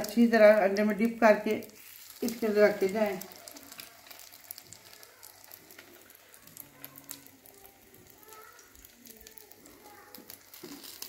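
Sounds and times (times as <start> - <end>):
kebabs sizzling in oil: 0.0 - 11.0.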